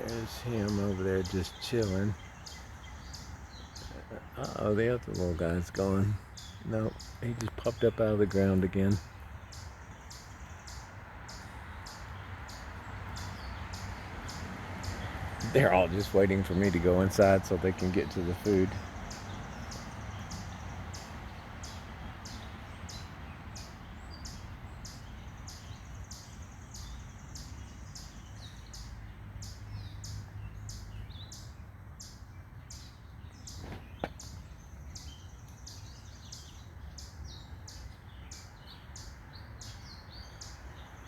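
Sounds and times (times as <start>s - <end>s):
city background hum: 0.0s - 41.0s.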